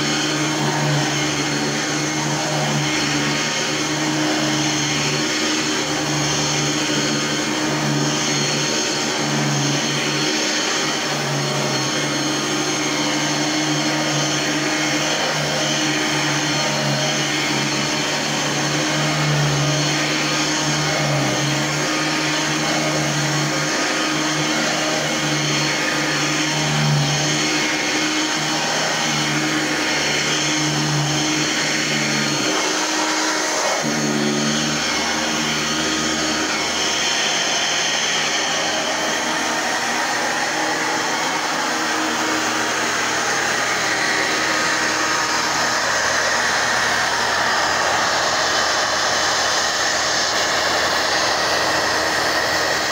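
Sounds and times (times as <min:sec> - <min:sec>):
vacuum cleaner motor running: 0:00.0 - 0:52.9.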